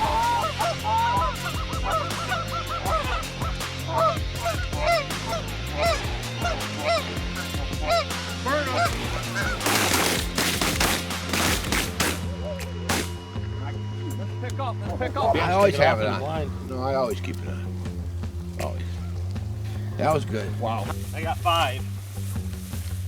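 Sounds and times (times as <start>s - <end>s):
geese honking: 0.0s - 12.3s, 15.1s - 22.4s.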